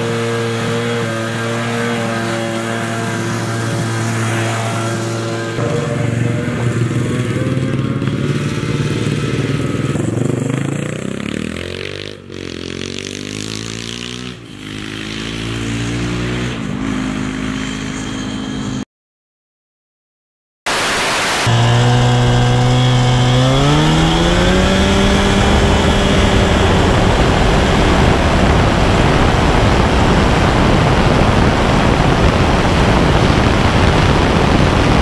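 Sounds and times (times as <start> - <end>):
go-kart engine revving: 0.0 - 18.8, 21.2 - 35.0.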